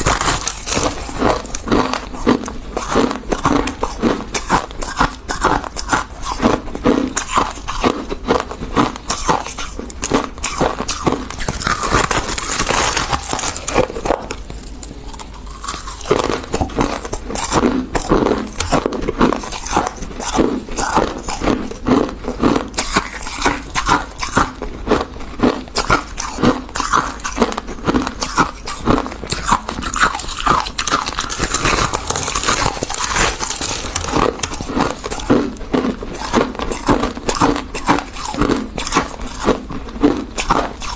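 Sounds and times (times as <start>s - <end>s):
crunching frost being chewed: 0.0s - 40.9s.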